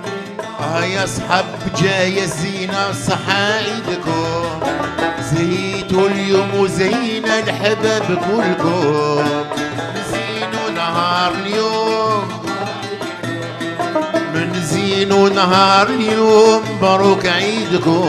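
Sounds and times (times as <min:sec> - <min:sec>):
hand drum: 0:00.0 - 0:18.0
man singing: 0:00.0 - 0:18.0
oud violin and mandole: 0:00.0 - 0:18.0.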